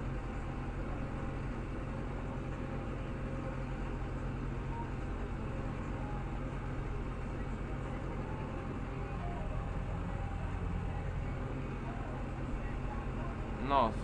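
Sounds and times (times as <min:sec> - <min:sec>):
tractor engine running under load: 0:00.0 - 0:14.0.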